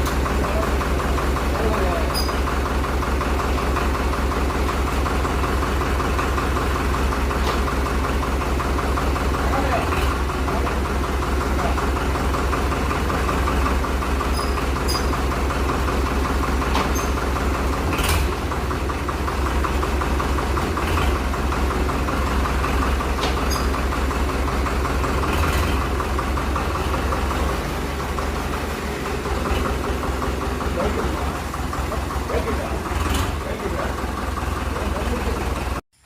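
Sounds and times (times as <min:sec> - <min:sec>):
diesel tractor engine idling: 0:00.0 - 0:35.8.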